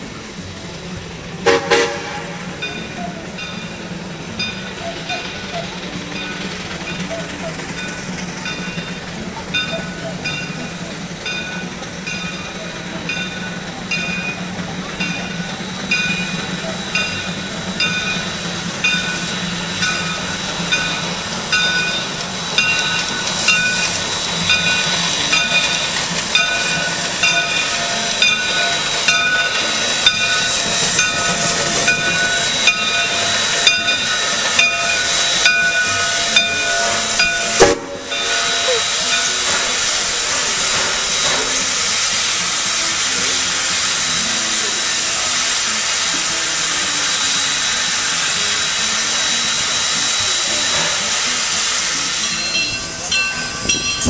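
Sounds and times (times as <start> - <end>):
locomotive bell ringing: 0.0 - 54.0
steam hissing: 0.0 - 54.0
steam locomotive rolling: 0.0 - 54.0.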